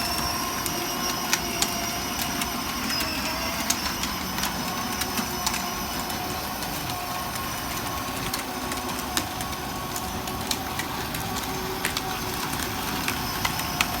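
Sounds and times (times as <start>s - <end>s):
vehicle motor whine: 0.0s - 14.0s.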